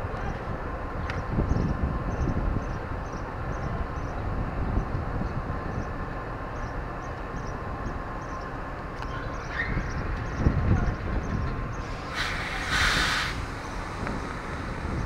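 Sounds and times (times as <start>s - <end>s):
diesel train engine rumbling: 0.0s - 15.0s.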